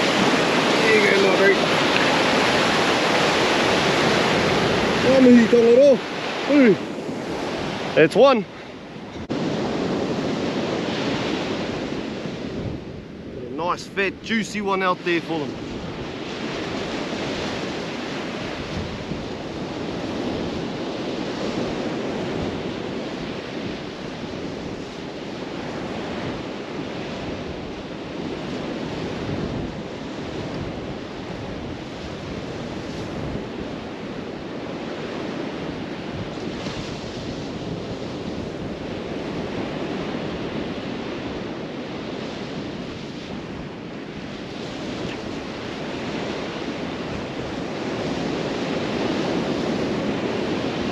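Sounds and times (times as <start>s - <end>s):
surf washing onto beach: 0.0s - 50.9s
wind buffeting microphone: 0.0s - 50.9s.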